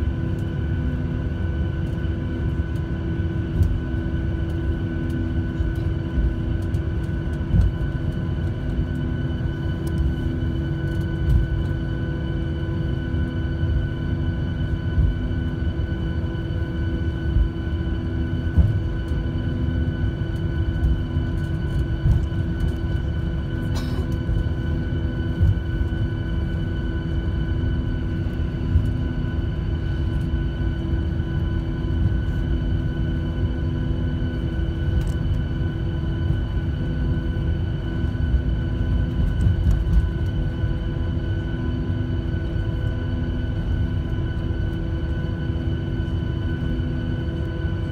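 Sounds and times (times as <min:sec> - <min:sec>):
jet engines idling: 0:00.0 - 0:47.9.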